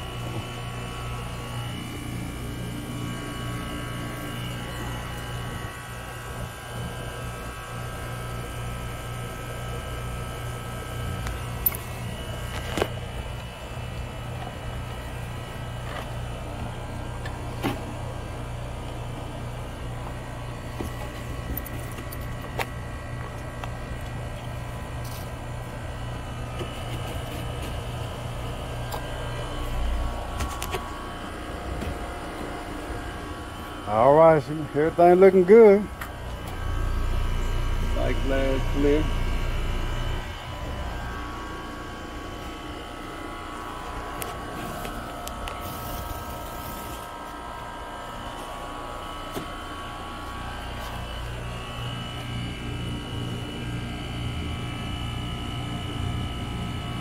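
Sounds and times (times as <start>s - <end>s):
air conditioner unit humming: 0.0s - 57.0s.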